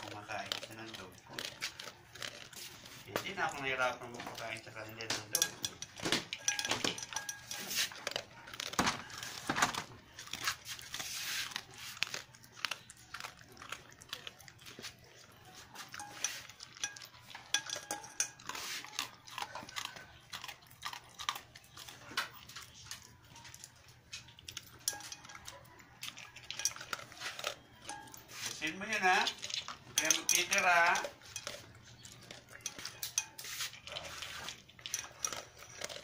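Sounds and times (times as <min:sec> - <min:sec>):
kibble clinking on metal bowl: 0:00.0 - 0:11.0, 0:12.0 - 0:36.0
dog chewing kibble: 0:00.0 - 0:36.0.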